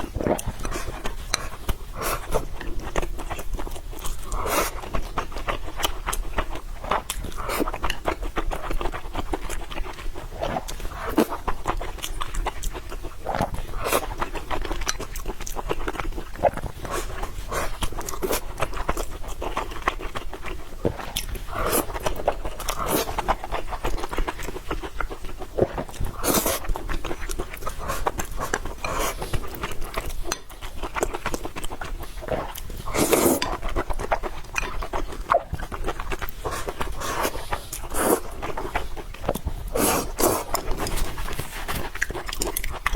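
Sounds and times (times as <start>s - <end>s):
wet chewing and lip-smacking: 0.0s - 42.9s.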